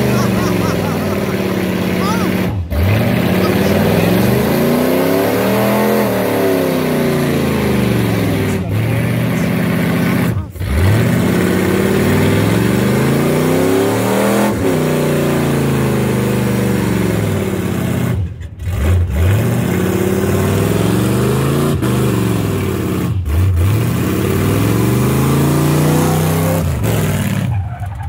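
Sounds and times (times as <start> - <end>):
truck engine revving high: 0.0 - 28.0.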